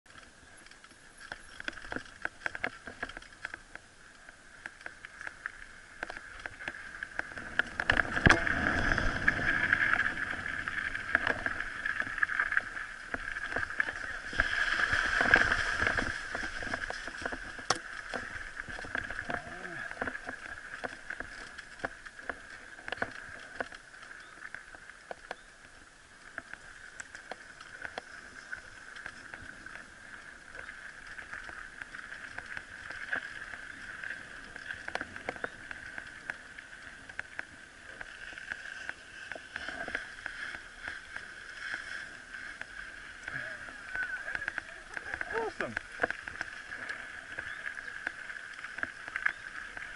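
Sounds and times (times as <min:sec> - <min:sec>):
bike tyres rolling on gravel: 0:00.1 - 0:49.9.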